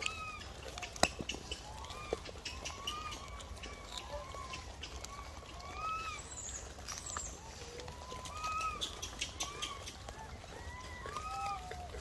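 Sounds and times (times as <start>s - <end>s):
monkeys coo calling: 0.0s - 12.0s.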